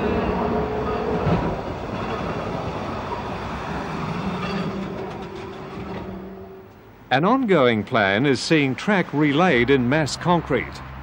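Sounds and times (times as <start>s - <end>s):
tram wheel and rail noise: 0.0s - 11.0s.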